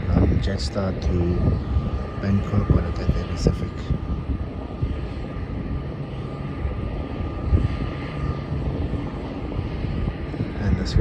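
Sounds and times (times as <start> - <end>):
faint high whine: 0.0 - 11.0
jet engines rumbling: 0.0 - 11.0.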